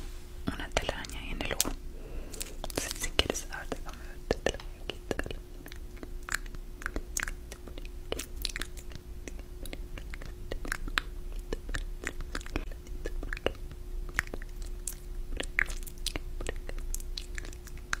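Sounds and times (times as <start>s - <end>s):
faint steady hum: 0.0s - 18.0s
wet mouth clicks and smacks: 2.4s - 18.0s.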